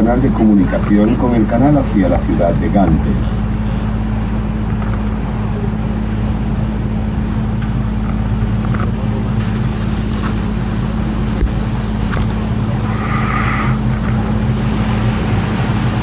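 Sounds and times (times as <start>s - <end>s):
boat motor humming: 0.0s - 16.0s
water noise: 0.0s - 16.0s
wind noise: 2.1s - 16.0s.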